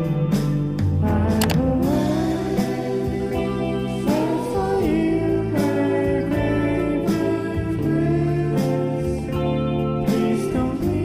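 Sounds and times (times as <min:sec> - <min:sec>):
music with sustained notes: 0:00.0 - 0:11.0.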